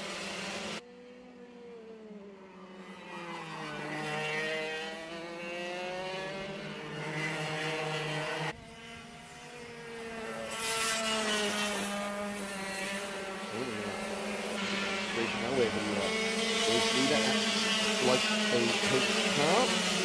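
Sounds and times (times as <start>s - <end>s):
kart engines running: 0.0s - 20.0s.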